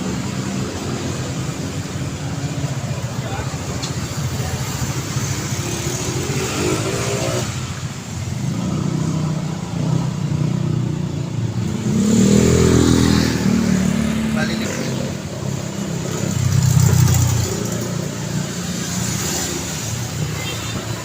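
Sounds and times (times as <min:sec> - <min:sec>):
tyre and road noise: 0:00.0 - 0:21.0
vehicle engines passing: 0:00.0 - 0:21.0.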